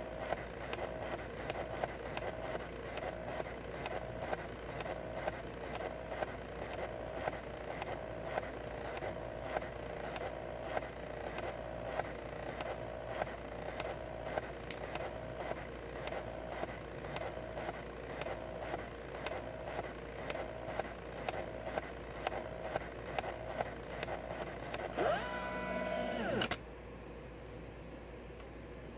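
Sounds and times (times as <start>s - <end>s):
stepper motors whining: 0.0s - 26.6s.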